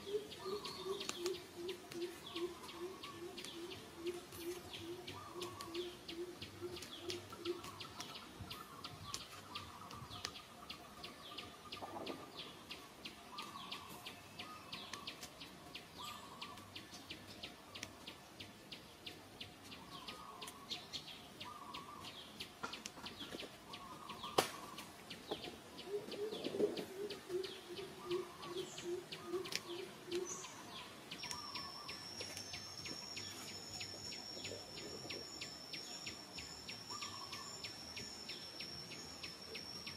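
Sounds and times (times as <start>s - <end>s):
birds calling: 0.0s - 39.9s.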